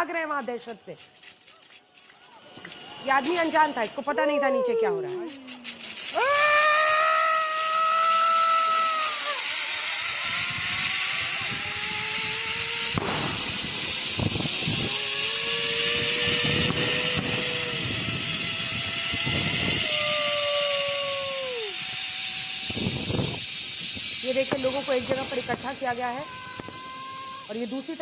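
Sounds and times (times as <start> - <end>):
zipline trolley rushing hiss: 0.0 - 28.0
sliding whining tone: 0.4 - 28.0
sharp cracks: 4.9 - 28.0.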